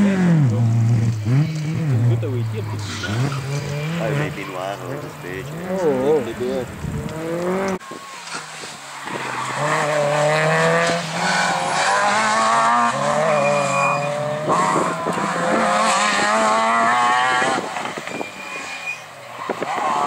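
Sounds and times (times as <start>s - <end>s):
rally car engine revving: 0.0s - 20.0s
tyres sliding on dirt: 0.5s - 20.0s.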